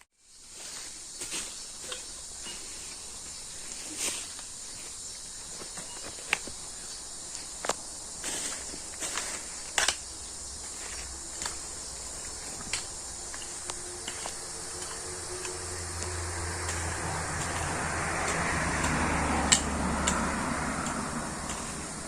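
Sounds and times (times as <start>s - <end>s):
leaves and soil crunching: 0.1s - 22.0s
high-pitched insect chorus: 0.2s - 22.0s.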